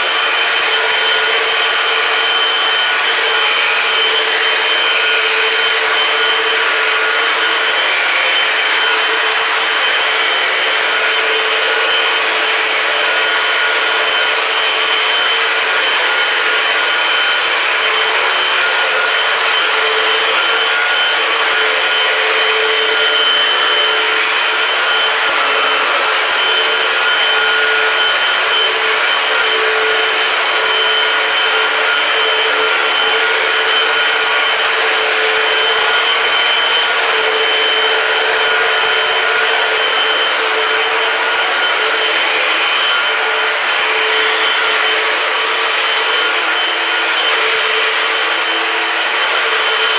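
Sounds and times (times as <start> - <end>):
upright vacuum cleaner running: 0.0 - 49.9.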